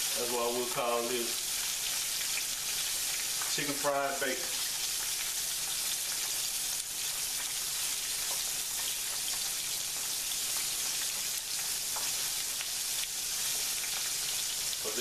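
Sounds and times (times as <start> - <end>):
bacon deep-frying in grease: 0.0 - 15.0.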